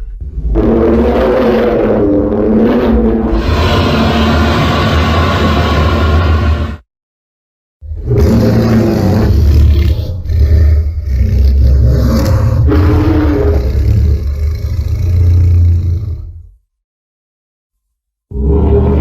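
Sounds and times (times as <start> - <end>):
low growling roar: 0.0 - 6.7, 7.8 - 16.6, 18.3 - 19.0.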